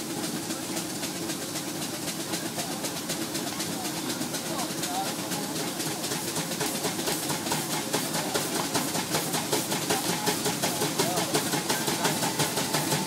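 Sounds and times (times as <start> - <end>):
steam engine exhaust chuffing: 0.0 - 13.0.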